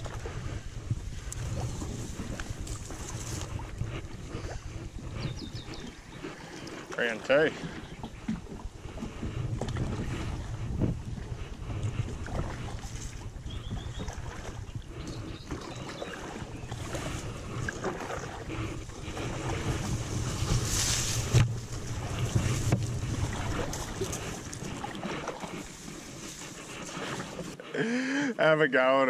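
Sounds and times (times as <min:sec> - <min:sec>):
rushing water: 0:00.0 - 0:00.6, 0:01.2 - 0:28.3
wind buffeting microphone: 0:00.0 - 0:27.6.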